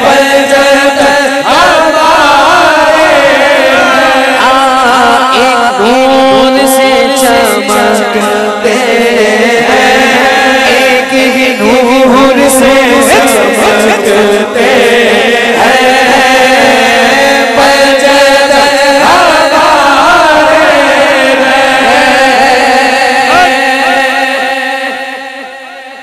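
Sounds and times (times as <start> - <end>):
men chanting through a microphone: 0.0 - 26.0.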